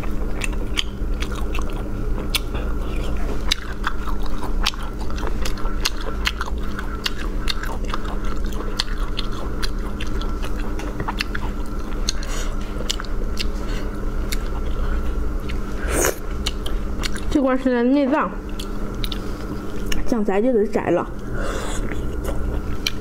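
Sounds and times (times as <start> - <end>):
wet chewing clicks and smacks: 0.0 - 15.7, 16.3 - 17.4, 18.5 - 20.1, 22.0 - 23.0
faint steady hum: 0.0 - 23.0.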